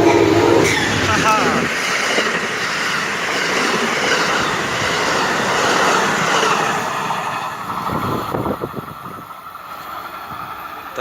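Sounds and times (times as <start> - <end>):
train wheels rushing on rails: 0.0 - 11.0.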